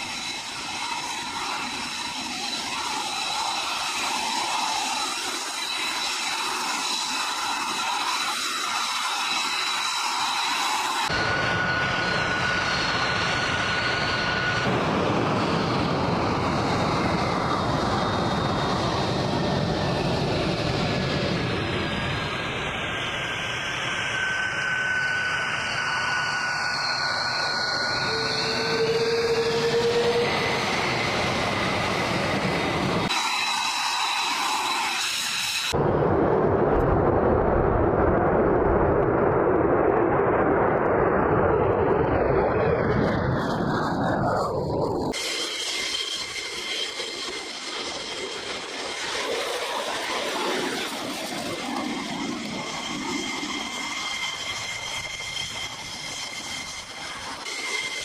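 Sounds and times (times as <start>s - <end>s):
faint jet whine: 0.0s - 58.0s
jet engine roar: 0.0s - 58.0s.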